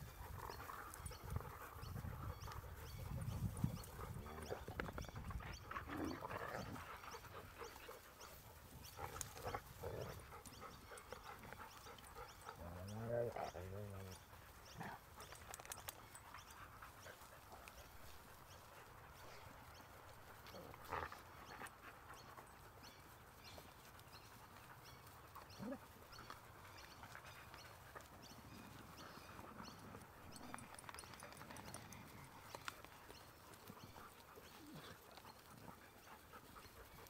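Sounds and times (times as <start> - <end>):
dogs rustling: 0.0 - 37.0.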